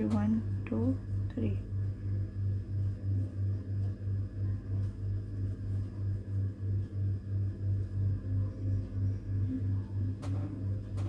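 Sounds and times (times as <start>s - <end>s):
pulsing electrical hum: 0.0s - 11.0s.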